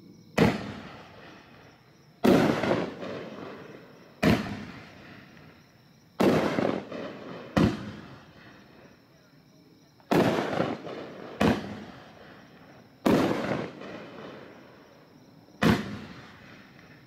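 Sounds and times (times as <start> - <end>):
fireworks booming: 0.3 - 9.0, 9.9 - 17.0.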